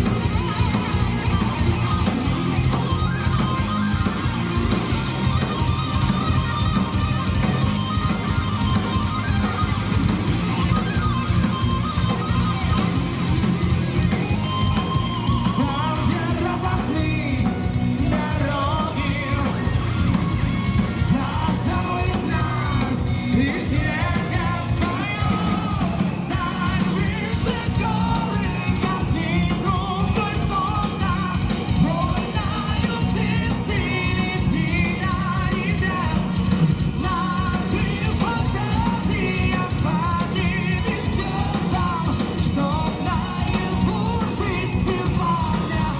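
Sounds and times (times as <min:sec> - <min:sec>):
bending lead guitar melody: 0:00.0 - 0:45.9
heavy metal band playing: 0:00.0 - 0:45.9.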